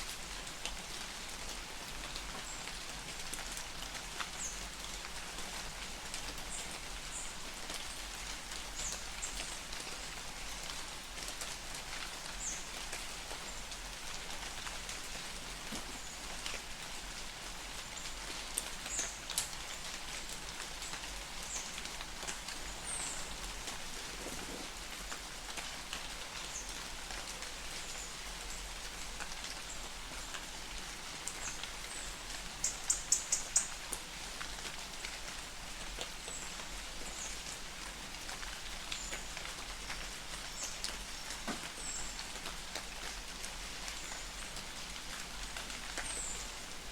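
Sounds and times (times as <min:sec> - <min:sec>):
rain pattering on leaves: 0:00.0 - 0:46.9.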